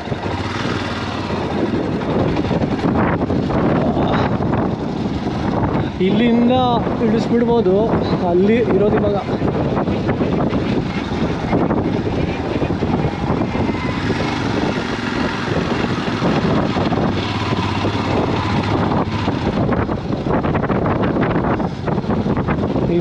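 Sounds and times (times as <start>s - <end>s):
motorcycle engine running slowly: 0.0s - 6.1s, 9.2s - 22.8s.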